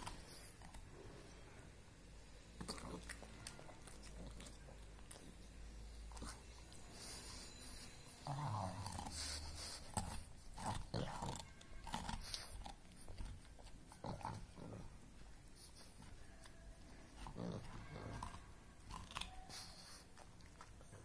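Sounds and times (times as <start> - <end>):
dog crunching carrot: 2.5 - 7.2, 8.3 - 15.0, 15.6 - 21.0.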